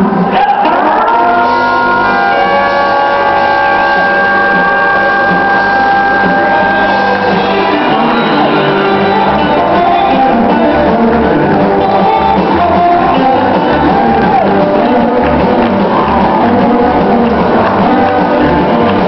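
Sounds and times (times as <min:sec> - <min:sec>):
pulsing bass line: 0:00.0 - 0:19.0
electric guitar notes: 0:00.1 - 0:19.0.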